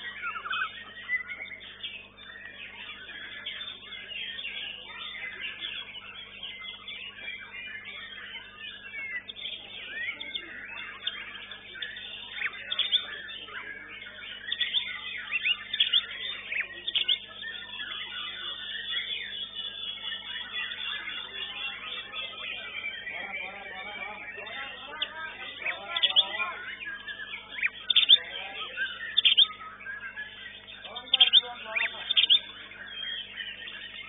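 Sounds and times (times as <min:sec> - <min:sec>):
other songbirds calling: 0:00.0 - 0:34.0
songbird singing fast chirps: 0:00.0 - 0:34.0.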